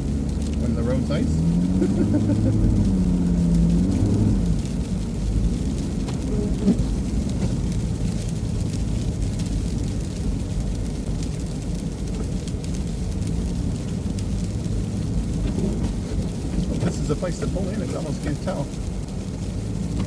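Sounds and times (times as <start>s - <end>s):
truck rumble from inside cab: 0.0s - 20.0s.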